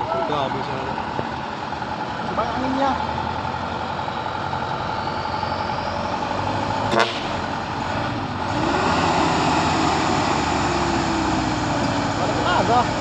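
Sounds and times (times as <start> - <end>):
diesel truck engines running: 0.0 - 13.0.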